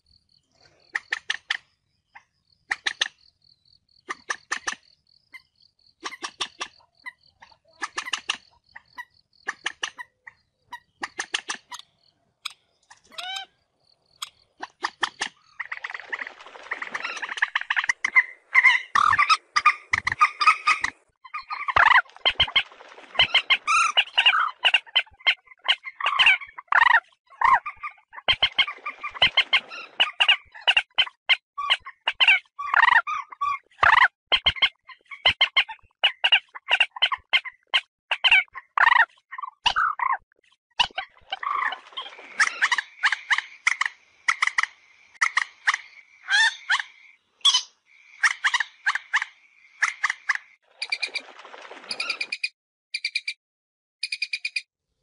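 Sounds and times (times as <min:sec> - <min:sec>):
moorhens clucking and croaking: 0:00.0 - 0:52.5.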